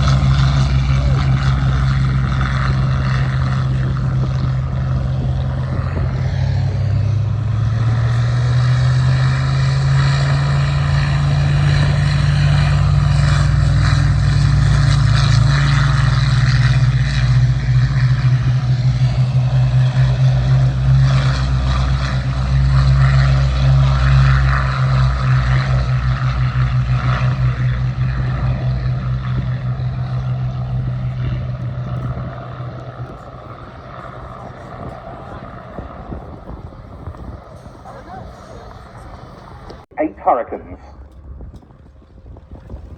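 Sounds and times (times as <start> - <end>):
aircraft engines droning: 0.0 - 42.9.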